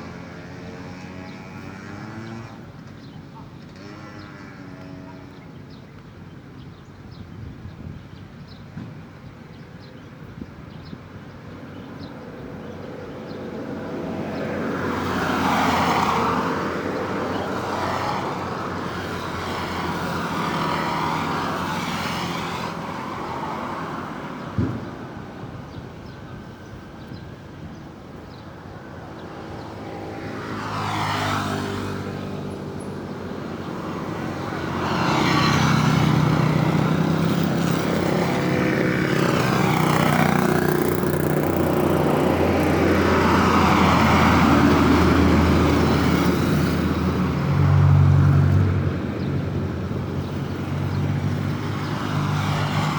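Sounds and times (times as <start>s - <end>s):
vehicles driving past: 0.0s - 5.7s, 11.4s - 52.9s.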